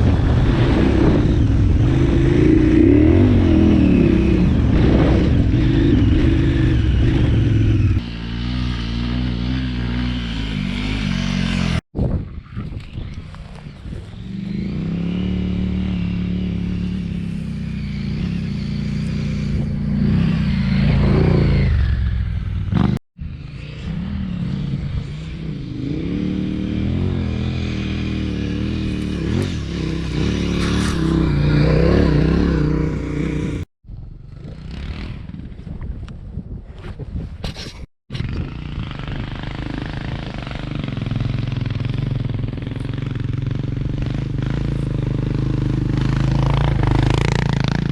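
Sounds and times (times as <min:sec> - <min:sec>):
motorcycle engine revving: 0:00.0 - 0:35.8, 0:38.1 - 0:47.9.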